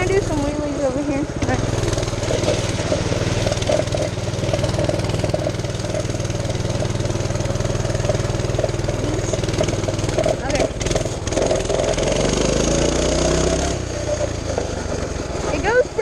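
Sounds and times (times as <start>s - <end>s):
small engine running steadily: 0.0s - 16.0s.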